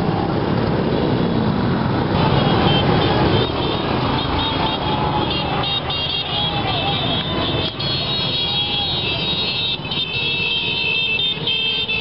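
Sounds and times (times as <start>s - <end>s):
motorcycles and scooters riding past: 0.0s - 11.4s.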